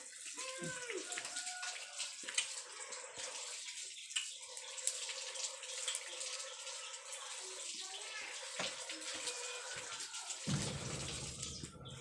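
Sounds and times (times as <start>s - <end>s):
crackling fat and coals: 0.0s - 12.0s.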